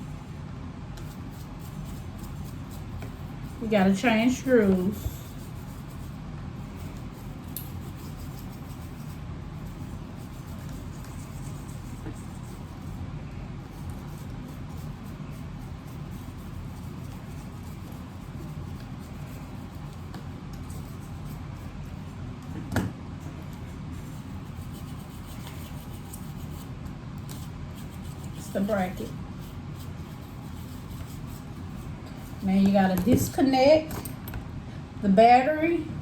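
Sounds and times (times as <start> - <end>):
low background hum: 0.0 - 36.0.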